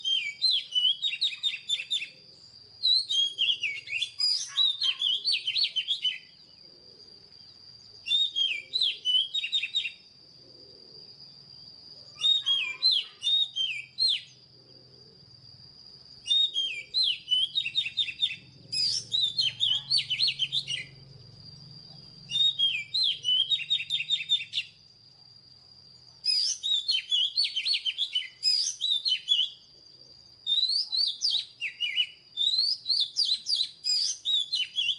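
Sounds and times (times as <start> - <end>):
bird singing whistled notes: 0.0 - 10.2, 11.1 - 14.5, 16.1 - 25.0, 26.0 - 34.9.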